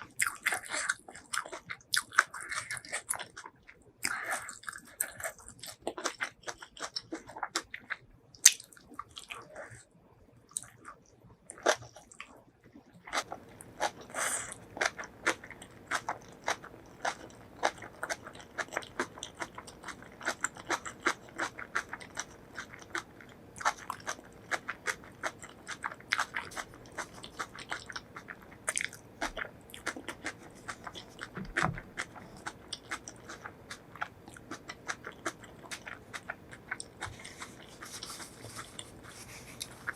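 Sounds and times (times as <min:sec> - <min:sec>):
person chewing crunchy food: 0:00.0 - 0:09.8, 0:10.5 - 0:39.9.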